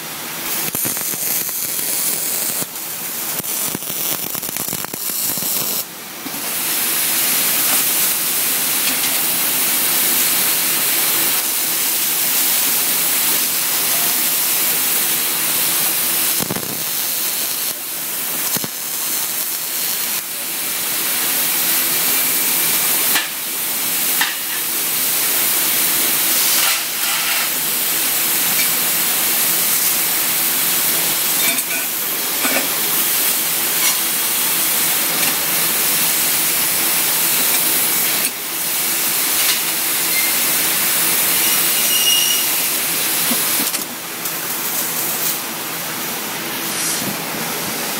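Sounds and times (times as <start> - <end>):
welding arc hissing: 0.0 - 47.4.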